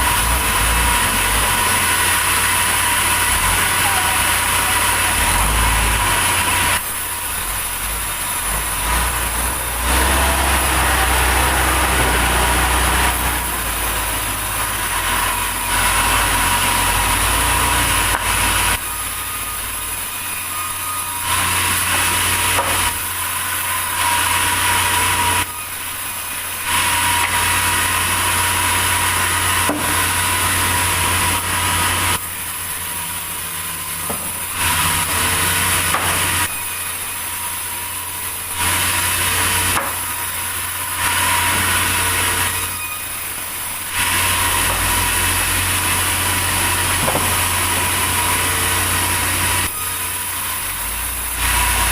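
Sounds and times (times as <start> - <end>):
engine running: 0.0 - 51.9
sawmill saw cutting log: 0.0 - 51.9.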